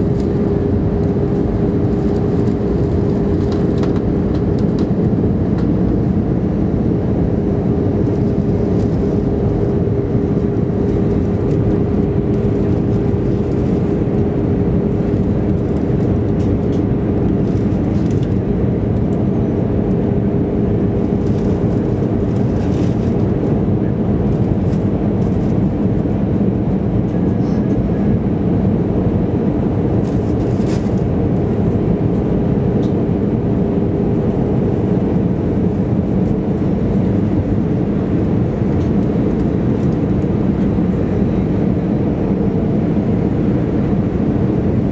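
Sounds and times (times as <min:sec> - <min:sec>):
constant hum: 0:00.0 - 0:44.9
jet engine cabin roar: 0:00.0 - 0:44.9.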